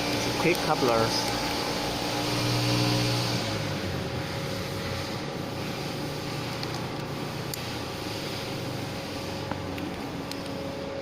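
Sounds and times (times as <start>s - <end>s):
background machinery hum: 0.0s - 11.0s.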